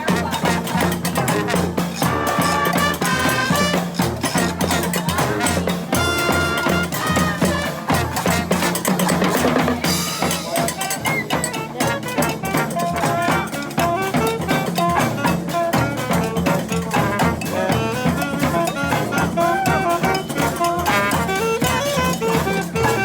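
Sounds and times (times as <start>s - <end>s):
brass band playing: 0.0s - 23.0s
quick drum beat: 0.0s - 23.0s.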